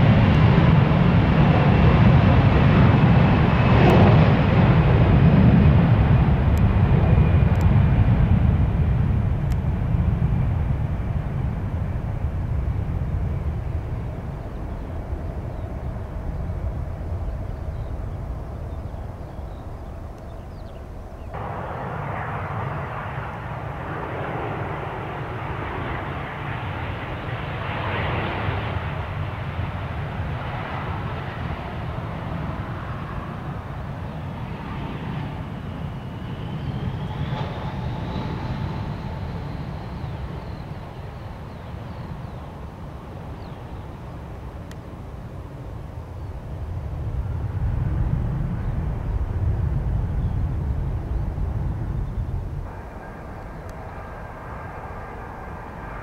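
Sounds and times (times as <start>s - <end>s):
airplane engines rushing: 0.0s - 56.0s
high engine whine: 0.0s - 56.0s.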